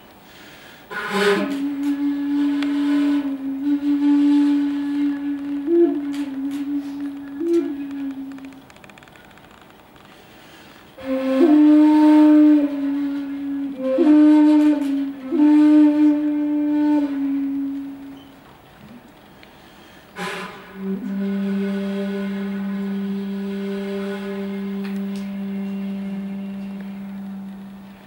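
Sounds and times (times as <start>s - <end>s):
bamboo flute long note: 0.0s - 8.8s, 11.0s - 28.0s.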